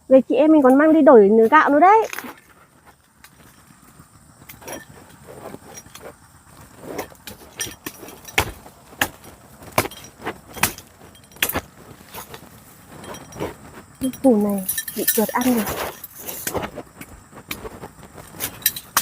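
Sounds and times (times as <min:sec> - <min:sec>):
hand tool striking earth: 0:00.8 - 0:19.0.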